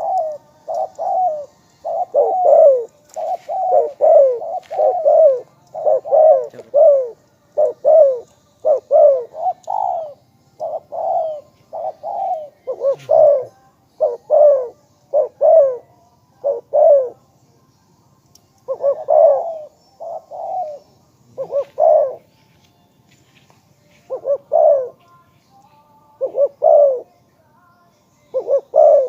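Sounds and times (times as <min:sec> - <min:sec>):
dove cooing: 0:00.0 - 0:17.2, 0:18.6 - 0:22.3, 0:24.0 - 0:25.0, 0:26.2 - 0:27.1, 0:28.3 - 0:29.0.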